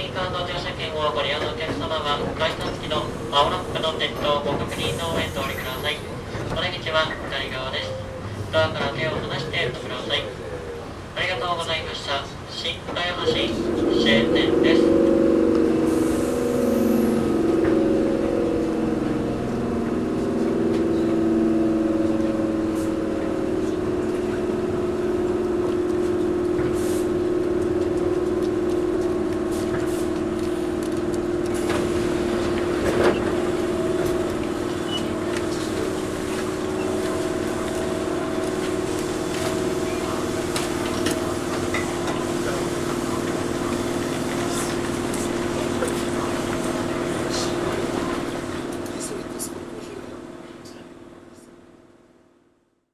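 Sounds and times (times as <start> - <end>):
train equipment hum: 0.0 - 51.9.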